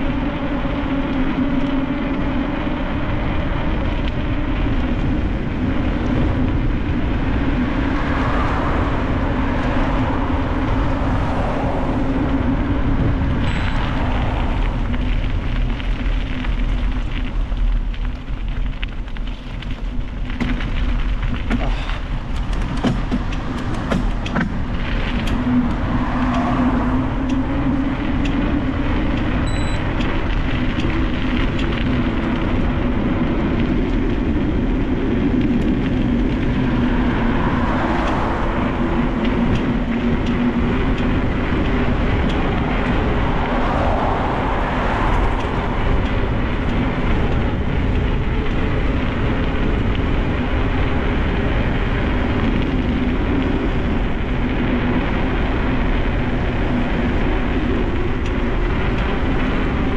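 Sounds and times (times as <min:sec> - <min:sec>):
bike rattles and clicks: 0:00.0 - 0:08.1, 0:11.9 - 0:59.9
wind noise on microphone: 0:00.0 - 0:59.9.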